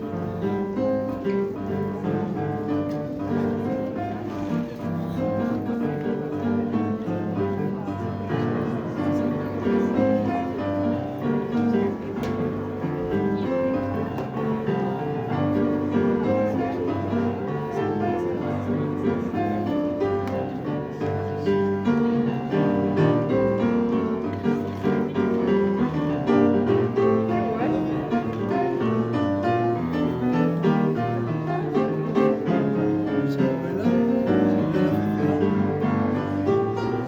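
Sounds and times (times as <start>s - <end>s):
piano playing flowing runs: 0.0s - 37.0s.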